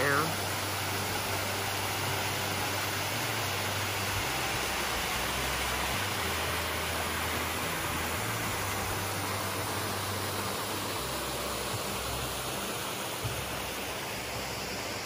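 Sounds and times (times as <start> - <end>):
water rushing over waterfall: 0.0 - 15.0.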